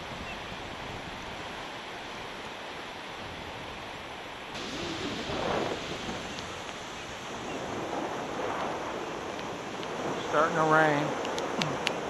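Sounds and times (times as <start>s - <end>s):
wind on microphone: 0.0s - 2.4s, 3.1s - 12.0s
ocean surf: 0.0s - 12.0s.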